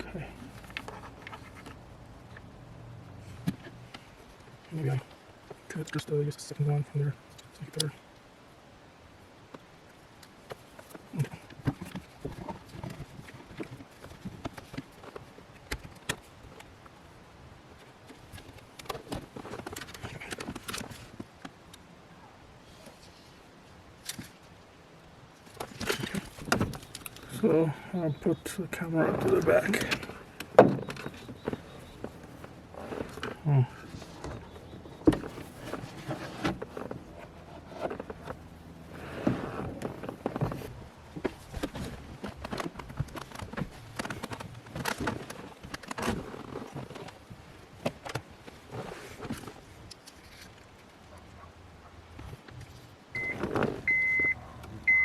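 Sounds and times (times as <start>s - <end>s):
rustling: 0.0s - 6.0s, 9.5s - 55.0s.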